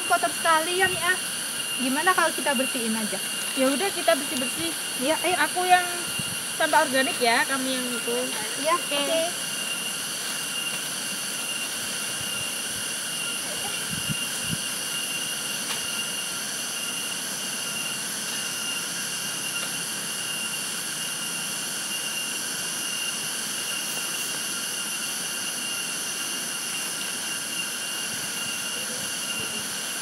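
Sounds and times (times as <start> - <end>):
cicadas droning: 0.0 - 30.0.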